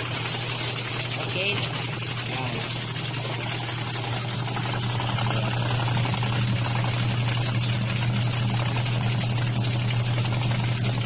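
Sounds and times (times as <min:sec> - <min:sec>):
spinning tub rushing: 0:00.0 - 0:11.0
washing machine motor hum: 0:00.0 - 0:11.0.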